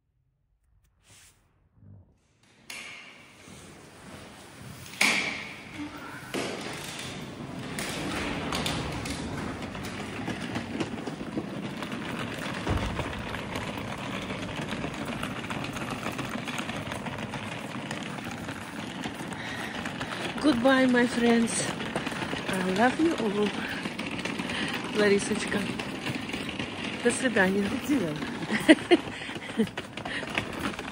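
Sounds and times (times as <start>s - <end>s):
suitcase wheels rattling on paving: 2.7s - 30.9s.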